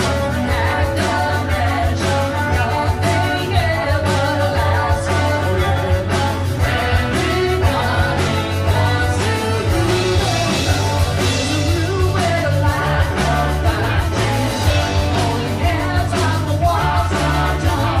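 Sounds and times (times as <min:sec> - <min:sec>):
person singing: 0:00.0 - 0:18.0
pulsing bass beat: 0:00.0 - 0:18.0.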